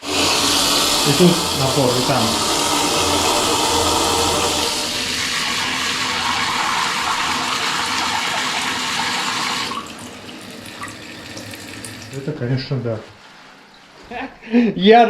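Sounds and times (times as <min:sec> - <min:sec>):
water gushing from tap: 0:00.0 - 0:12.3.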